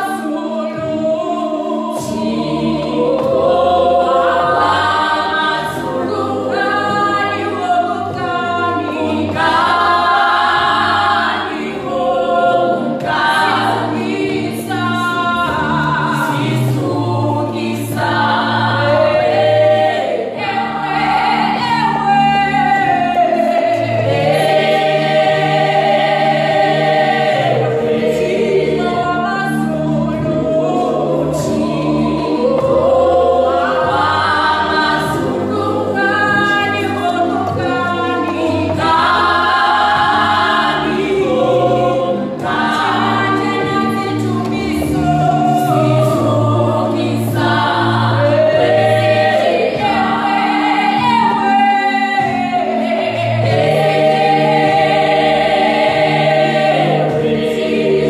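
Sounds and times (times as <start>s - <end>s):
group singing gospel in harmony: 0.0s - 58.0s.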